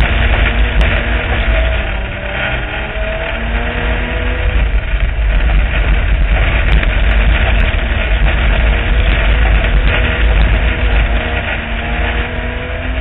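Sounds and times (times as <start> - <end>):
race car engine rumbling: 0.0 - 13.0
road and dirt noise: 0.0 - 13.0.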